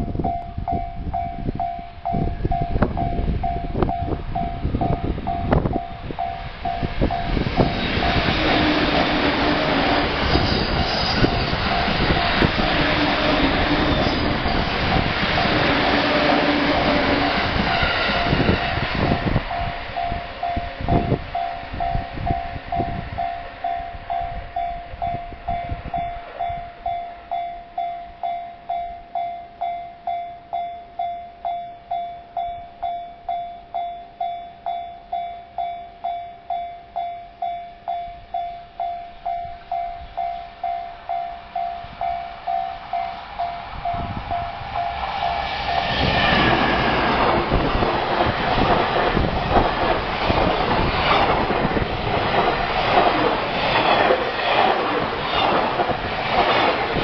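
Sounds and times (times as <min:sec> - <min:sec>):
freight train rumbling: 0:00.0 - 0:57.0
level-crossing bell clanging: 0:00.0 - 0:57.0
train rumble and wheel clatter: 0:00.0 - 0:57.0.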